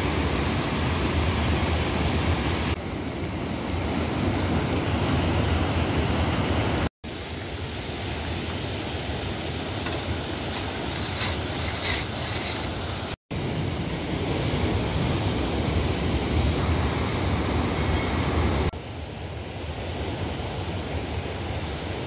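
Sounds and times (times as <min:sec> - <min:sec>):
water rushing in a stream: 0:00.0 - 0:22.0.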